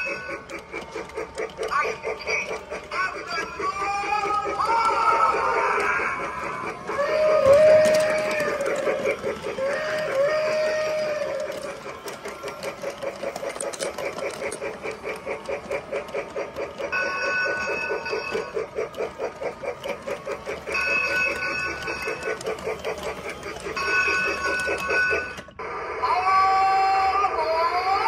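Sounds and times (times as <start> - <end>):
toy train whistle: 0.0 - 14.6, 16.8 - 28.0
toy train bell ringing: 0.0 - 25.6
toy train chugging: 0.0 - 28.0.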